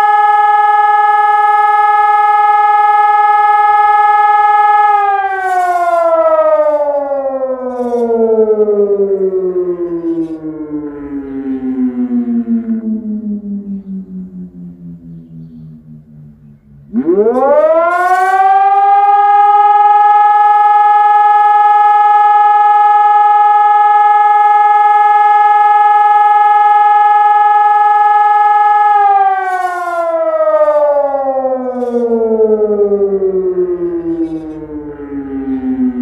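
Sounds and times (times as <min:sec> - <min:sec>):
civil defence siren blast: 0:00.0 - 0:36.0.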